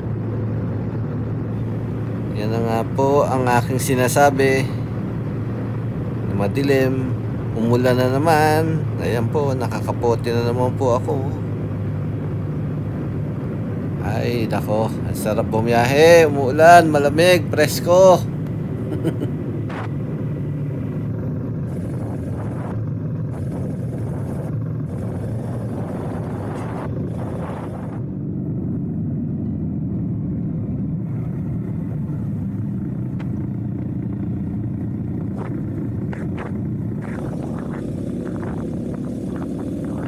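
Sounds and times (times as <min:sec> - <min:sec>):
motorcycle engine drone: 0:00.0 - 0:40.0
wind noise: 0:00.0 - 0:40.0.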